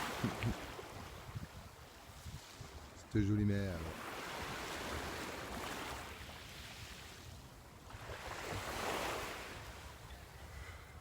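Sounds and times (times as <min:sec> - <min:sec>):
sea surf washing onto beach: 0:00.0 - 0:10.1.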